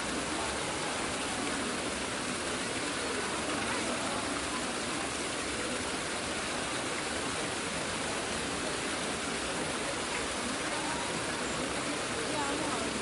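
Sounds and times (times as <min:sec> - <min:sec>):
crowd murmur: 0:00.0 - 0:13.0.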